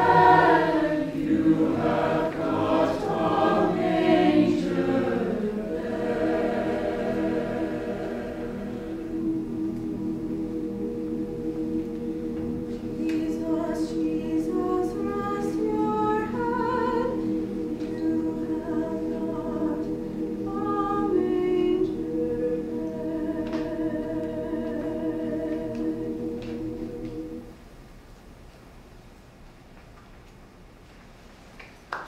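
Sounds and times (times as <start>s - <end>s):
mixed choir singing a carol: 0.0s - 27.5s.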